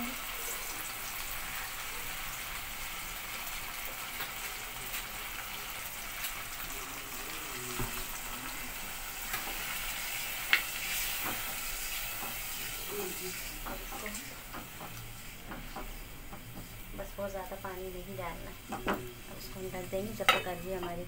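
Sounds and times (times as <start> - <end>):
curry sizzling in a pot: 0.0 - 21.0.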